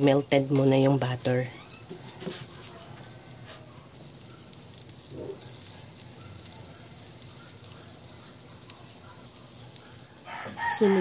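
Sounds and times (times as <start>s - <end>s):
butter sizzling in wok: 0.0s - 11.0s.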